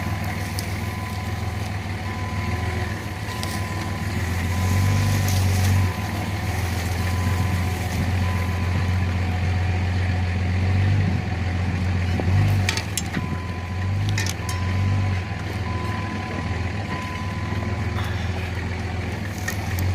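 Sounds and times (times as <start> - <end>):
vehicle engine humming: 0.0 - 19.9.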